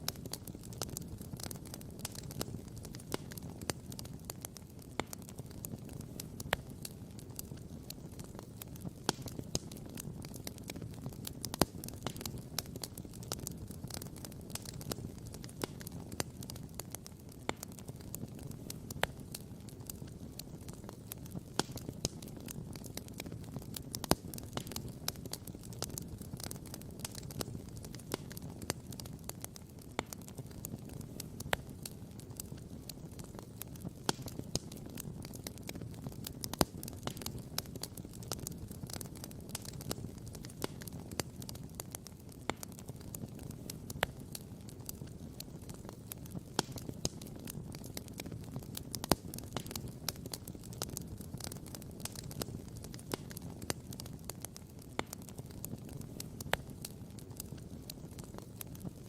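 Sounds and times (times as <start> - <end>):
campfire crackling: 0.0 - 59.0
loud fire pops: 0.1 - 59.0.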